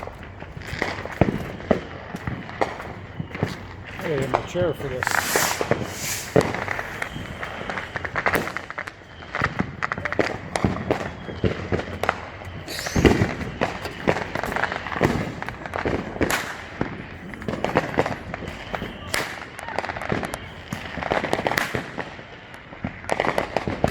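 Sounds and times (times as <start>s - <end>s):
deep firework boom: 0.0s - 19.2s
firecrackers banging and popping: 0.0s - 23.9s.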